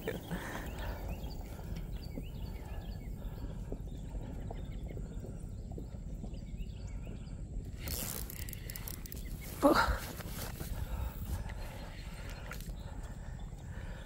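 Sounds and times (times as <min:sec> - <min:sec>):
faint bird chirps: 0:00.0 - 0:14.0
wind rumble on microphone: 0:00.0 - 0:14.0.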